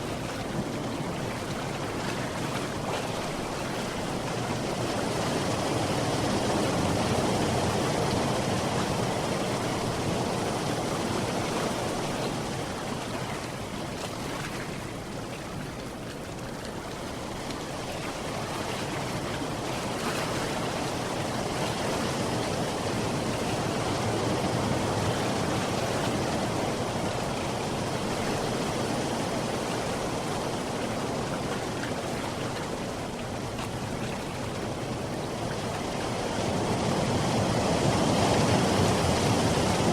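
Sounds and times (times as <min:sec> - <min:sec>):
sea waves washing: 0:00.0 - 0:39.9.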